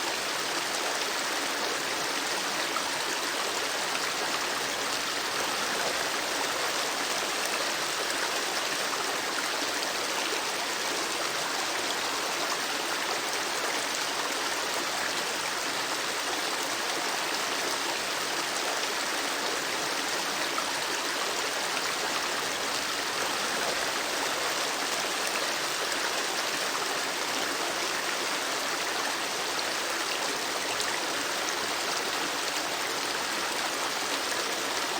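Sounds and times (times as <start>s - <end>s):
river water rushing and babbling: 0.0s - 34.9s.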